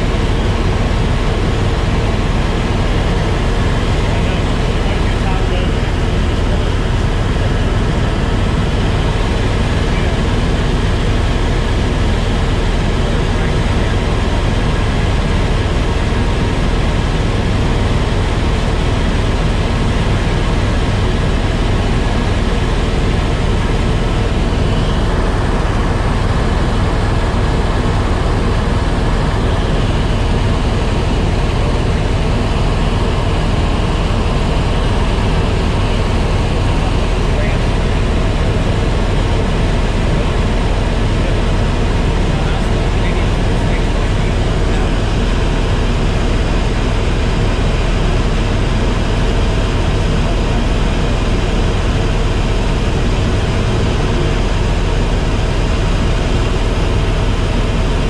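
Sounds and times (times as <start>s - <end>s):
helicopter rotor and engine noise: 0.0s - 58.0s.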